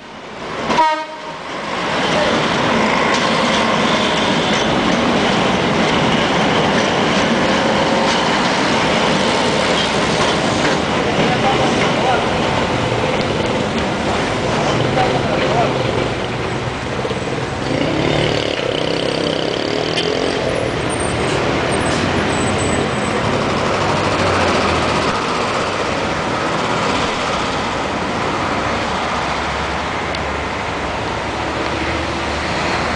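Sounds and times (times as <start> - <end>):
cars and buses driving past: 0.0 - 32.9.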